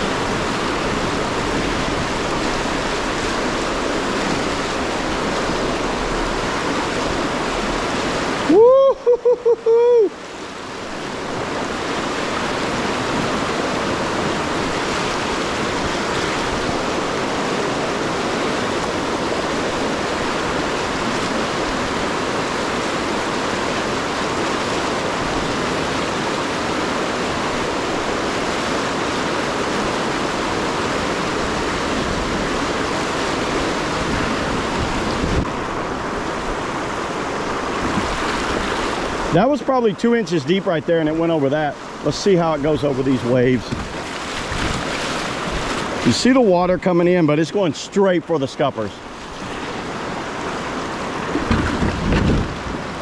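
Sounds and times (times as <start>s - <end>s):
whitewater rushing: 0.0s - 53.0s.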